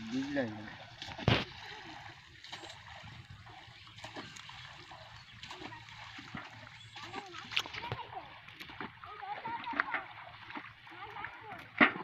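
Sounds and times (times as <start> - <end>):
small ticks and splashes: 0.0 - 12.0.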